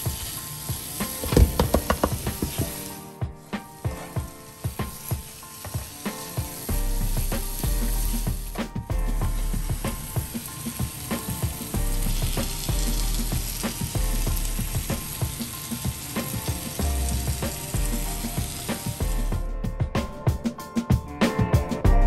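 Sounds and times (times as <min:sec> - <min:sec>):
masala sizzling in a pan: 0:00.0 - 0:19.4
music with clicking beat and bass: 0:00.0 - 0:22.0.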